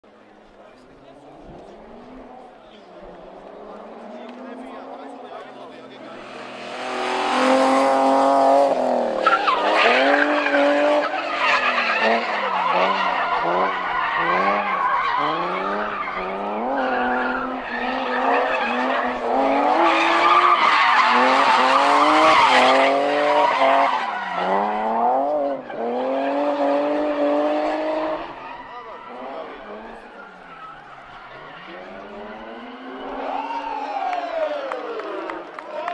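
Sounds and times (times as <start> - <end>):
car engine revving hard: 1.1 - 28.4, 29.0 - 33.6
tyres squealing on tarmac: 4.8 - 34.1.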